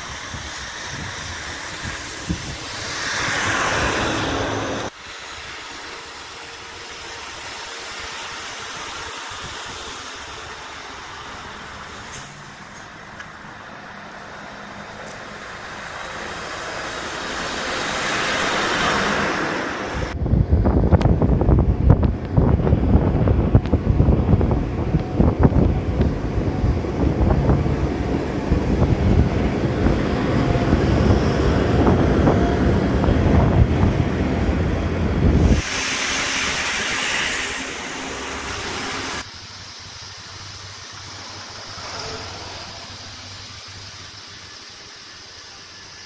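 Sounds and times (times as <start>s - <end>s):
low hum: 0.0s - 44.5s
heavy machinery diesel rumble: 0.0s - 45.7s
steady hiss: 0.0s - 46.0s.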